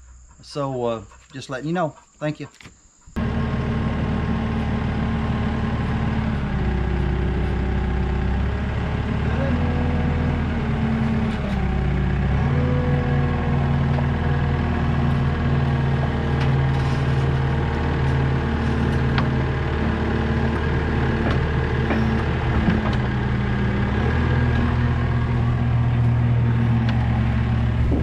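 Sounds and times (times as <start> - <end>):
vehicle engine idling: 3.2 - 28.0.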